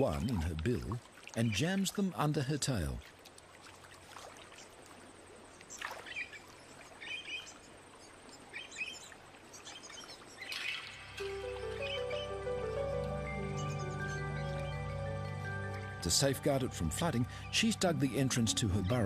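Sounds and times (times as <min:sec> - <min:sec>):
birds chirping: 0:00.0 - 0:03.0, 0:05.6 - 0:19.0
faint outdoor background hiss: 0:00.0 - 0:19.0.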